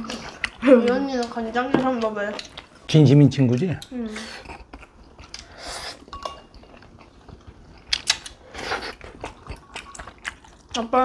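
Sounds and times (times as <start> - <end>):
chewing and wet mouth noises: 0.0 - 11.0.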